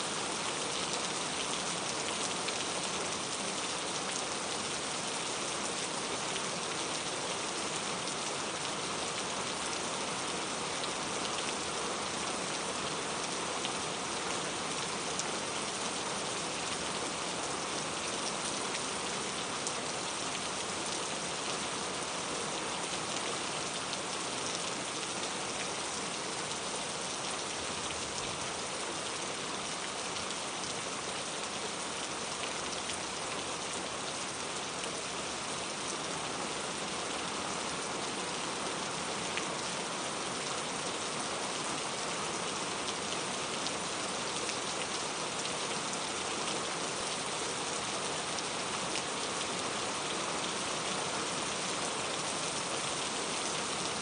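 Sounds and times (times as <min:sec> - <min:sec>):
steady rain falling on a surface: 0:00.0 - 0:54.0.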